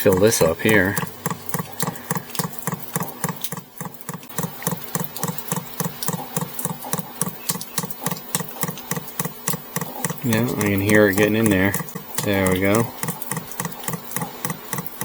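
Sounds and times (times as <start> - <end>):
fuel pump ticking: 0.0 - 15.0.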